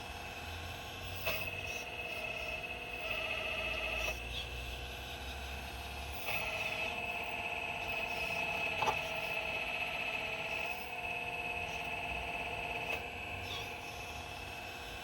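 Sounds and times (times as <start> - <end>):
excavator whine and hum: 0.0 - 15.0.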